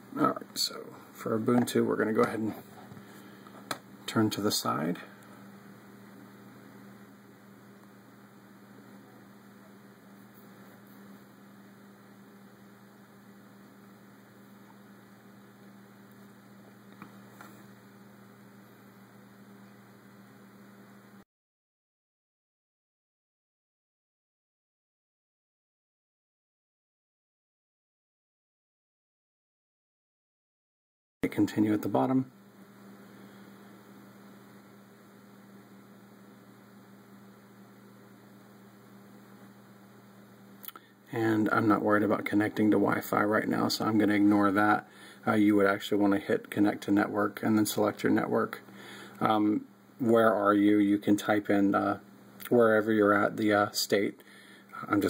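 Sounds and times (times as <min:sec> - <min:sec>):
low electrical hum: 0:00.0 - 0:21.2, 0:31.2 - 0:55.0
room tone hiss: 0:00.0 - 0:21.2, 0:31.2 - 0:55.0.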